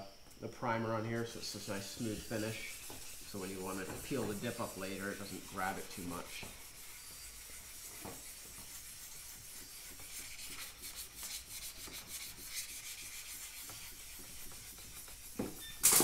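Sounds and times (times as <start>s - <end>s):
sandpaper rubbing strokes: 0.9s - 15.6s.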